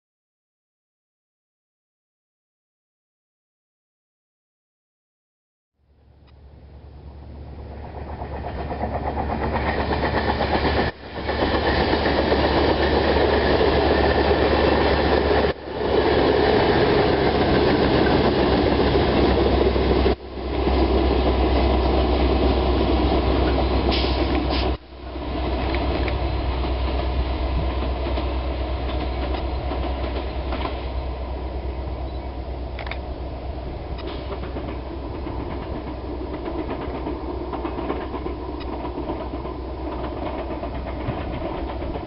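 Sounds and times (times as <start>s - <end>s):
train passing: 5.9s - 42.0s.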